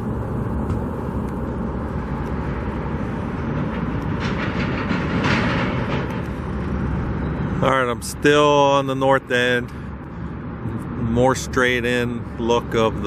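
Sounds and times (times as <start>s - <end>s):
vehicle traffic rumble: 0.0s - 13.0s.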